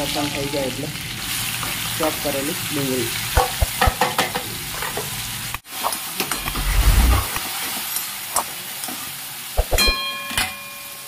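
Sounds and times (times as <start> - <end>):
onion and garlic sizzling in oil: 0.0 - 10.1.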